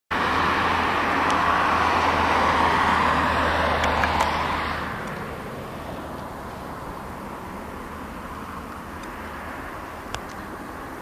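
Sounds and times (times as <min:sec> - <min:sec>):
jet engines at takeoff thrust: 0:00.1 - 0:11.0.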